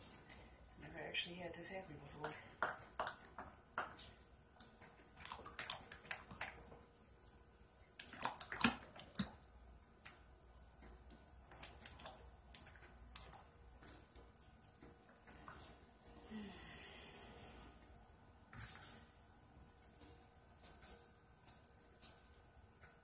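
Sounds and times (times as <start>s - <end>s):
spatula squelching thick batter: 1.7s - 23.0s.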